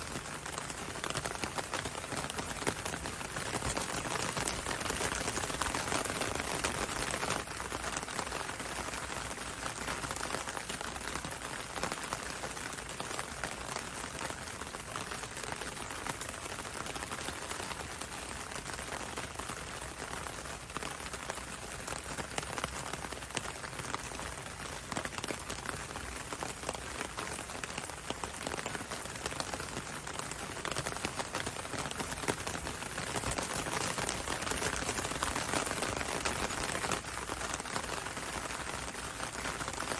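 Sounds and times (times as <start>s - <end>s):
rain pattering on window and road: 0.0s - 39.9s.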